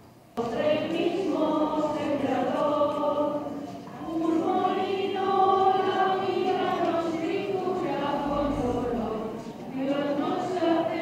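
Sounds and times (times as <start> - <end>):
choir singing a slow hymn: 0.4 - 11.0.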